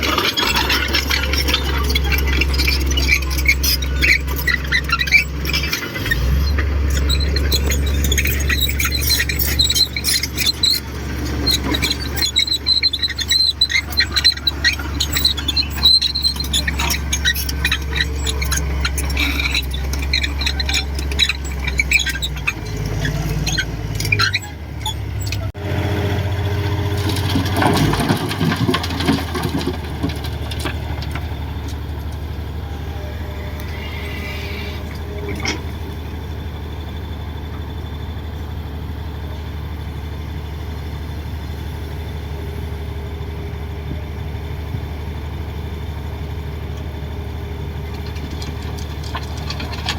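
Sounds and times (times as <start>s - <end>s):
steel tracks squealing and clattering: 0.0s - 43.7s, 44.5s - 49.9s
bulldozer diesel engine running: 0.0s - 49.9s.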